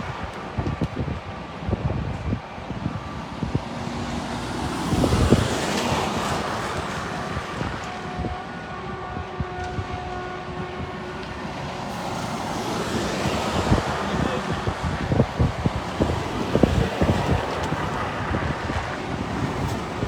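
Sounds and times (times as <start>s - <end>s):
heavy lorries driving past: 0.0s - 20.0s
wind buffeting microphone: 0.0s - 20.0s.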